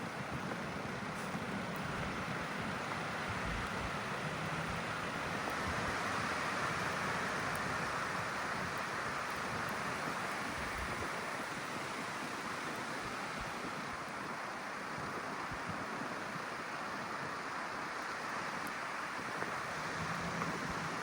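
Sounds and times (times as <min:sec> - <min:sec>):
blizzard wind rushing hiss: 0:00.0 - 0:21.0
wind buffeting microphone: 0:00.0 - 0:21.0.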